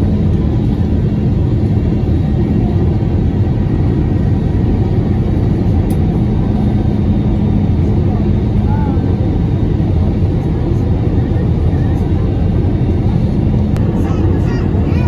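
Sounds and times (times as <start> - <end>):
jet cabin engine drone: 0.0 - 15.0.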